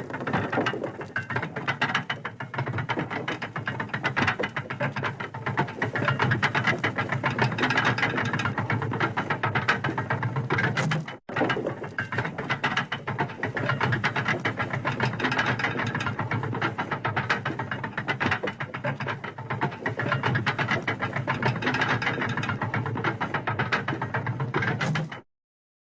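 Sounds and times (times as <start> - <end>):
gears clattering and ratchet clicks: 0.0 - 25.2.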